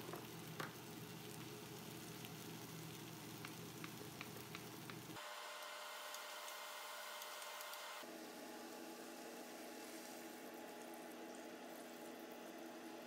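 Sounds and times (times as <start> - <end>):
steady hiss: 0.0 - 10.6
meat and vegetables sizzling: 0.0 - 10.8.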